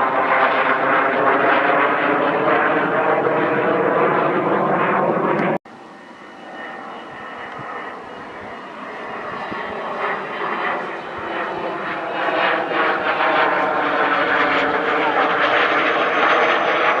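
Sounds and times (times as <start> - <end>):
jet aircraft engine roar: 0.0 - 17.0.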